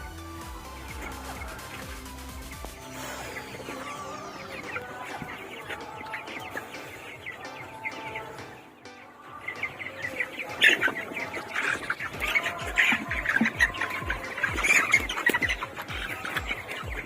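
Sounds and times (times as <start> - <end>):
background music: 0.0 - 17.0
chicks chirping: 0.0 - 17.0.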